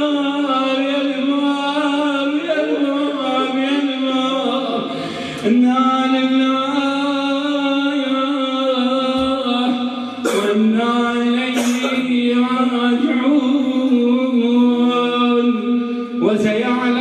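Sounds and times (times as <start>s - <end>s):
man chanting a lament: 0.0s - 17.0s.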